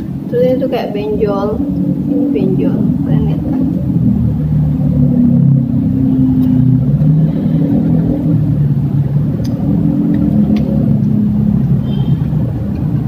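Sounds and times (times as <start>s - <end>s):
low rumble with shifting hum: 0.0s - 13.0s.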